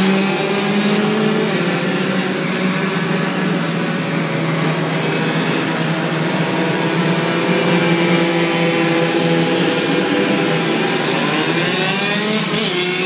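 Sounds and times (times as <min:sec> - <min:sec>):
racing moped engines droning: 0:00.0 - 0:13.0.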